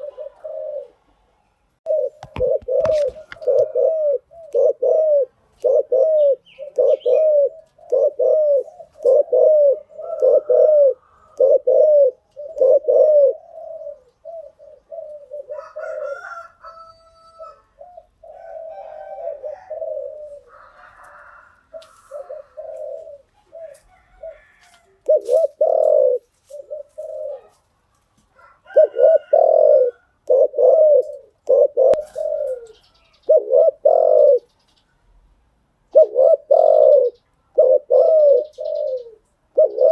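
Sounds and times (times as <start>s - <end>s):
dove cooing: 0.0s - 1.2s, 1.8s - 27.7s, 28.3s - 34.6s, 35.9s - 39.9s.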